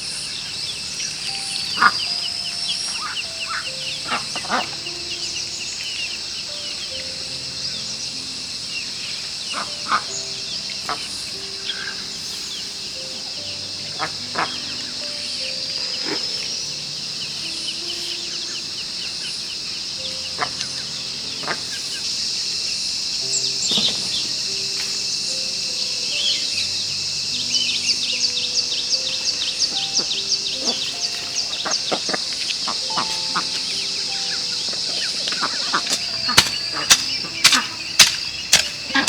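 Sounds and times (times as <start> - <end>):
birds chirping: 0.0 - 39.0
high insect drone: 0.0 - 39.0
soft music with held notes: 0.0 - 39.0.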